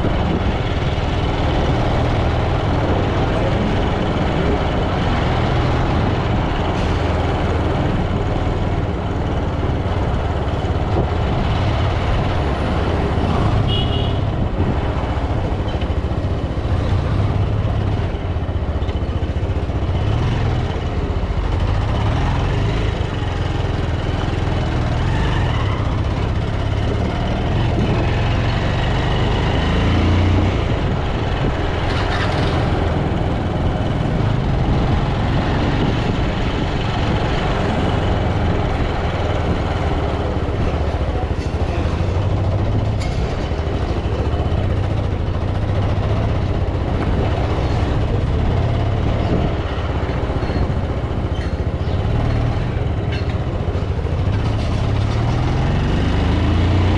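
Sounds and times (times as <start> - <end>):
motorcycle engine running: 7.5 - 56.9.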